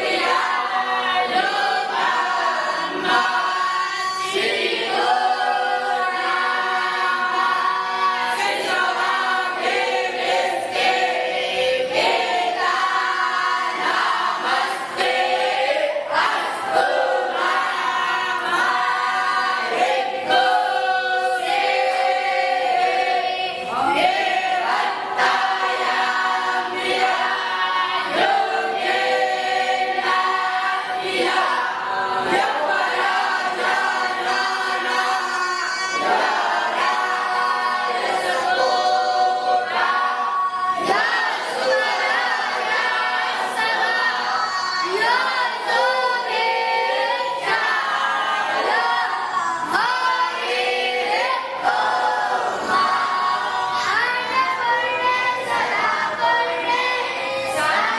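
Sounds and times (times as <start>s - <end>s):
voices chanting in unison: 0.0s - 57.9s.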